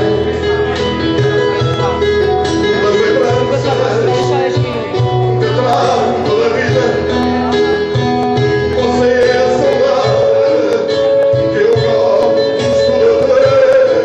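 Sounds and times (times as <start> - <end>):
low bass line: 0.0 - 14.0
plucked guitar music: 0.0 - 14.0.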